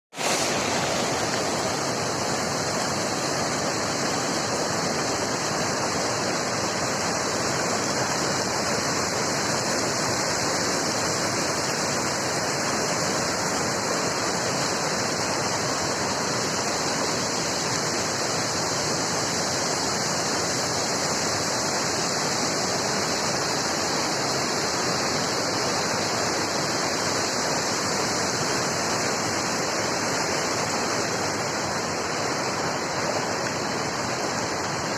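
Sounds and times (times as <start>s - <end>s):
water rushing and pouring: 0.1s - 34.9s.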